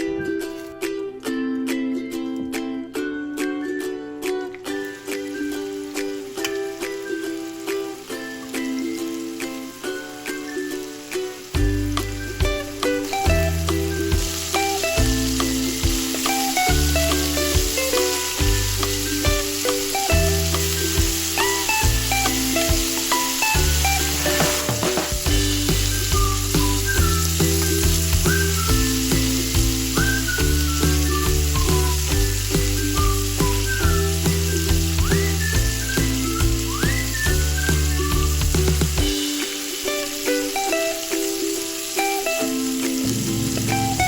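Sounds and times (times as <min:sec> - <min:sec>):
background music: 0:00.0 - 0:44.0
food sizzling in a pan: 0:04.6 - 0:44.0.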